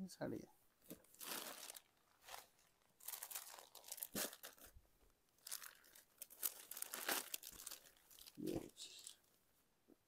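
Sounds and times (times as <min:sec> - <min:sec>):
fabric crinkling and rustling: 0:00.8 - 0:09.3.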